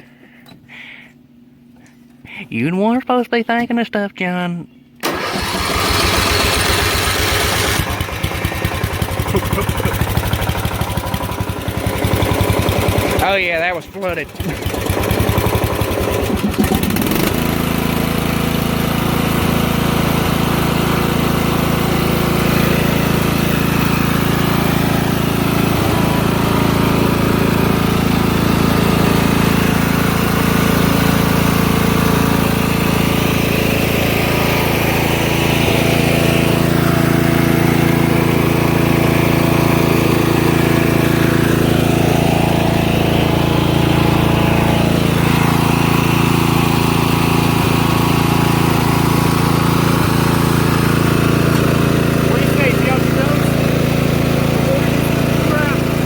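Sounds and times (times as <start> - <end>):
lawn mower engine cranking: 5.0 - 56.0
lawn mower engine running: 5.0 - 56.0.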